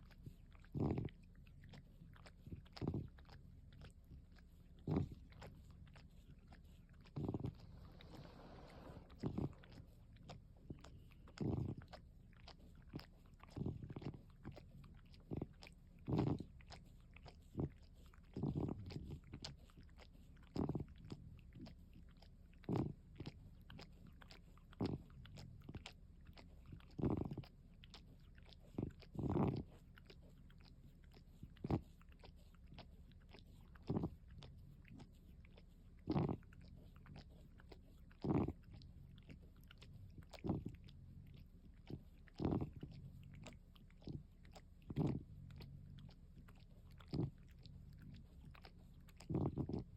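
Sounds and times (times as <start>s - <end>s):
cat licking and nibbling: 0.0s - 49.9s.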